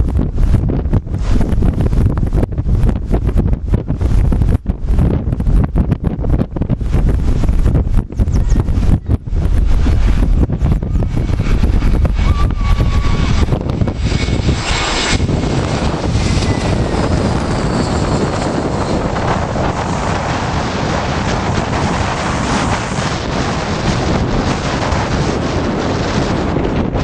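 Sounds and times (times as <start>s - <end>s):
jet airliner engine roar: 0.0s - 27.0s
wind buffeting microphone: 0.0s - 27.0s.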